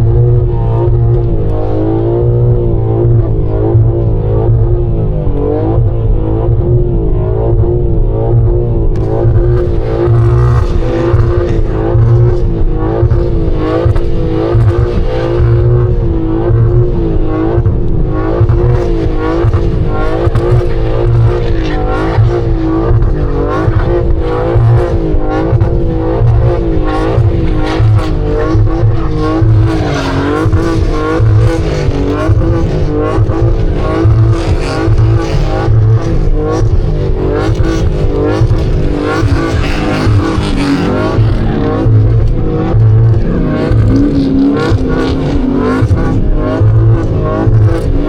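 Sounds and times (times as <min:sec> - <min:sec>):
car engine revving high: 0:00.0 - 0:48.0.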